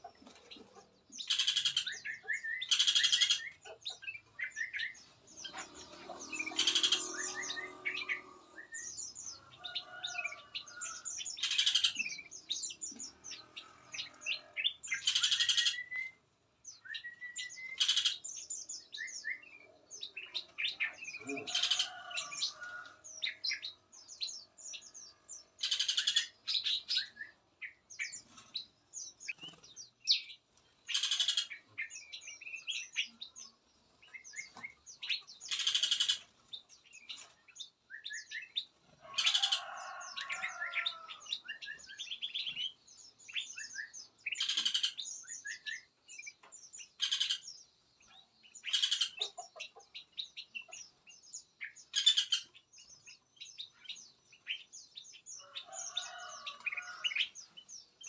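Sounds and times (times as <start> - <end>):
loud noisy bird calls: 0.0 - 58.0
songbirds chirping and singing: 0.0 - 58.0.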